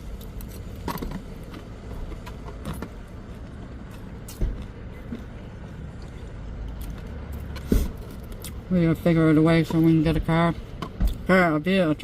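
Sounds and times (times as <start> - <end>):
motor vehicles rumbling: 0.0 - 12.0.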